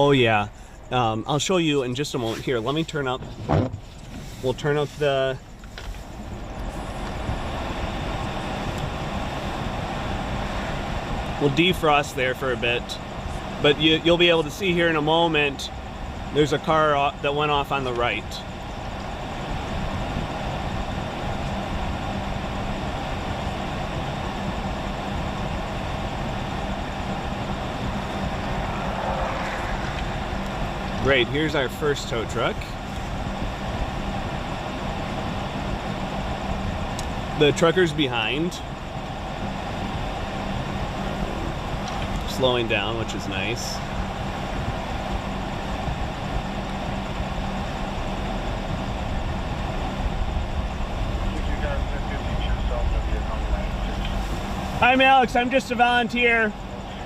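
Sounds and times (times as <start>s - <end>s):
car engine hum: 0.0s - 57.0s
car heater fan blowing: 0.0s - 57.0s
constant hiss: 0.0s - 57.0s.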